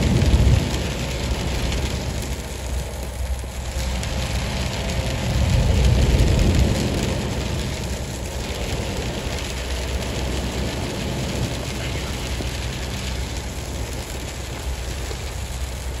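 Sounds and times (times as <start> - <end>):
hiss of rain and road spray: 0.0 - 16.0
truck engine and tyre rumble: 0.0 - 16.0.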